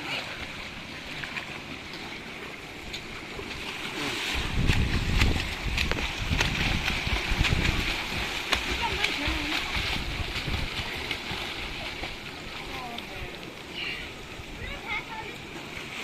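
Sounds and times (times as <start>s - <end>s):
stream water rushing: 0.0s - 16.0s
water splashes and clicks: 0.1s - 13.7s.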